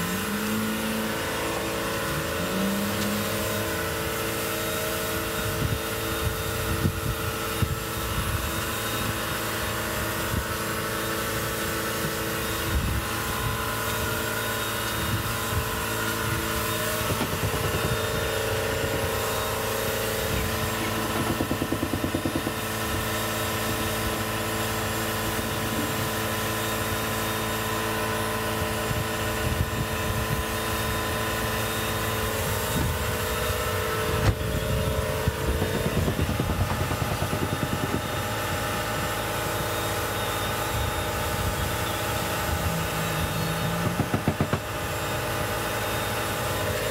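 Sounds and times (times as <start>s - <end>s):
motor droning hum: 0.0s - 46.9s.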